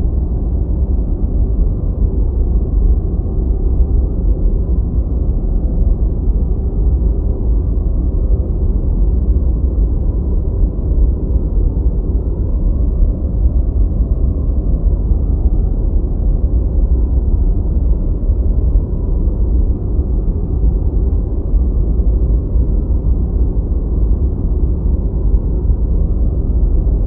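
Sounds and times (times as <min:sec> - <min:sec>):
deep white noise hiss: 0:00.0 - 0:27.0.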